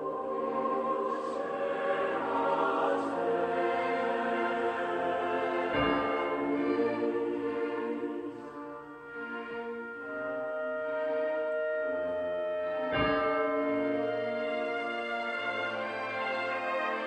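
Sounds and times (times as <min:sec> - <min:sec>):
church bells tolling slowly: 0:00.0 - 0:08.9, 0:11.4 - 0:17.0.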